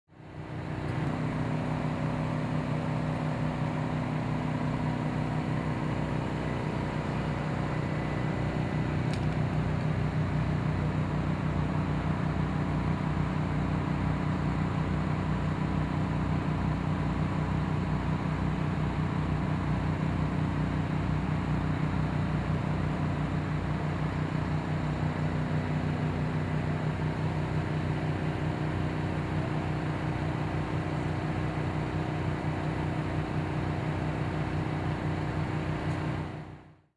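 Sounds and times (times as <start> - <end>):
vehicle engine humming: 0.1 - 36.8.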